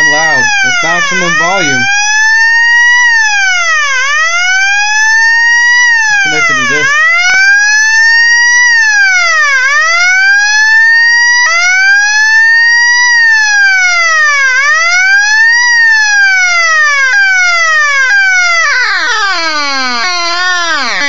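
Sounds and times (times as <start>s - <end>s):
electronic siren wailing: 0.0s - 21.0s.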